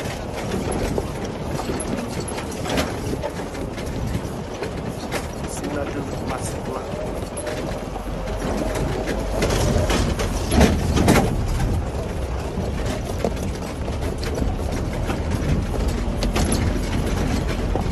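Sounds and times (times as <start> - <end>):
loud bumps: 0.0 - 17.9
rattles and knocks: 0.0 - 17.9
vehicle engine rumbling: 0.0 - 17.9.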